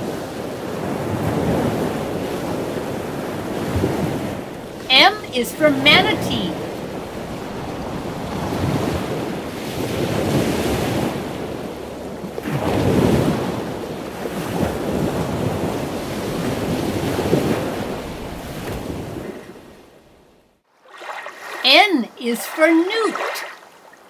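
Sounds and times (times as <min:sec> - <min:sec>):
ocean waves rushing: 0:00.0 - 0:19.7, 0:20.8 - 0:23.7.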